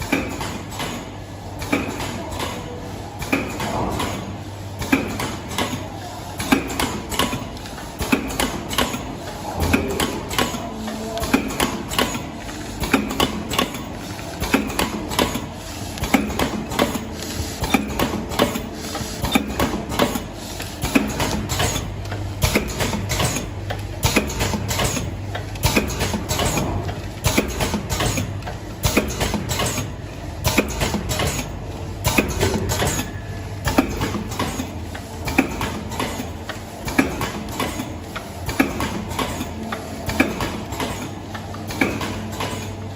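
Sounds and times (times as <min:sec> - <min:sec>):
machine clicks and clacks: 0:00.0 - 0:42.9.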